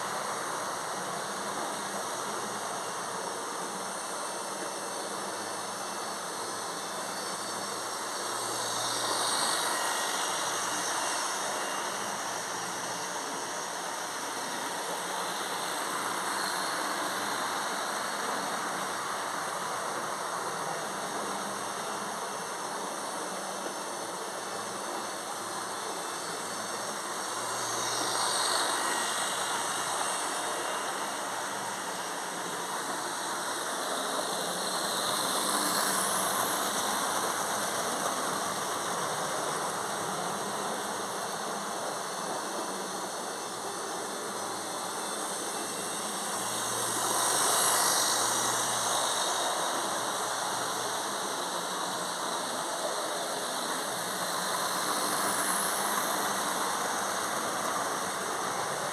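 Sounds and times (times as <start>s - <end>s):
model train running on track: 0.0s - 58.9s.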